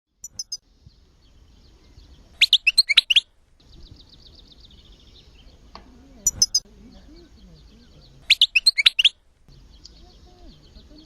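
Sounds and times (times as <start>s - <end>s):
goldfinch chirps and trill: 0.2s - 5.6s, 6.2s - 11.0s.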